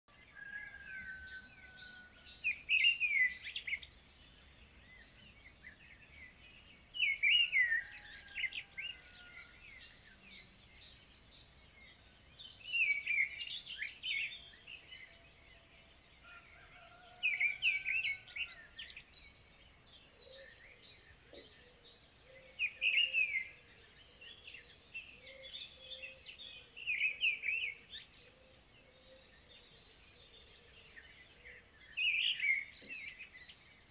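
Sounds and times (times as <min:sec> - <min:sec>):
birds chirping: 0:00.4 - 0:33.9.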